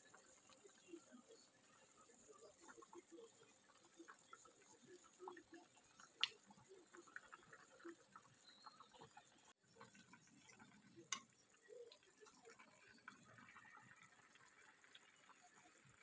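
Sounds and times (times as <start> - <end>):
soup simmering and bubbling: 0.0 - 16.0.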